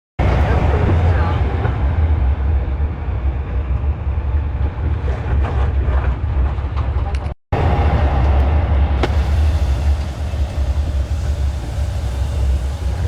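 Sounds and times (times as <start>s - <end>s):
train rumbling: 0.2s - 13.0s.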